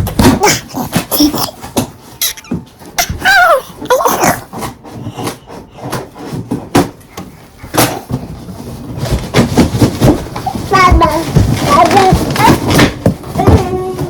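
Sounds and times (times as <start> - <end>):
clatter of things being handled: 0.0 - 14.0.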